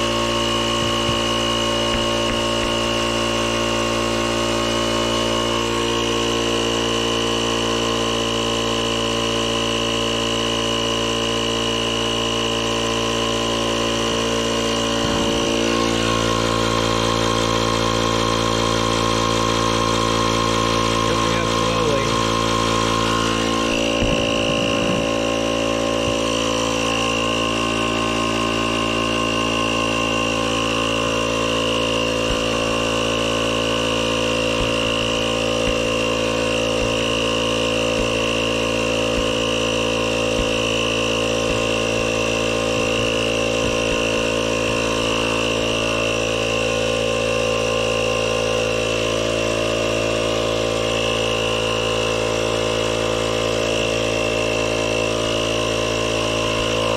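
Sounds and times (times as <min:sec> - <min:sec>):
motor humming steadily: 0:00.0 - 0:56.9.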